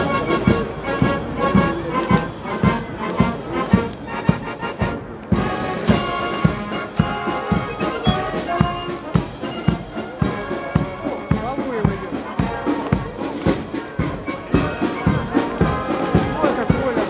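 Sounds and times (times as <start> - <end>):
brass band playing a march: 0.0 - 17.0.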